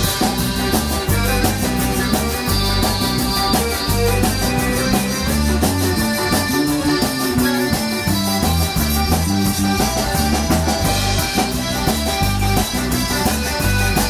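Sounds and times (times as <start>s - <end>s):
accordion: 0.0s - 14.0s
drum kit: 0.0s - 14.0s
electric bass: 0.0s - 14.0s
electric guitar: 0.0s - 14.0s.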